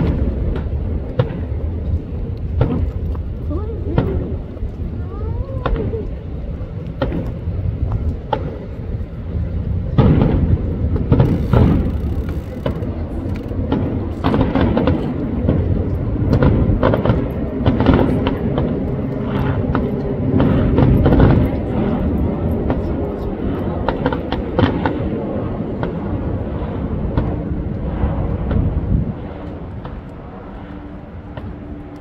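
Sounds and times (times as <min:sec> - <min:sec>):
distant fireworks booming and crackling: 0:00.0 - 0:32.0
steady low rumble: 0:00.0 - 0:32.0.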